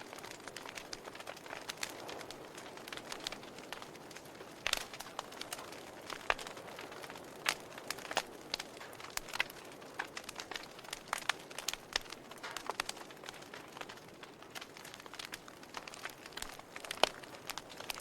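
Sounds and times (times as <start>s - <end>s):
wood fire popping and snapping: 0.0s - 18.0s.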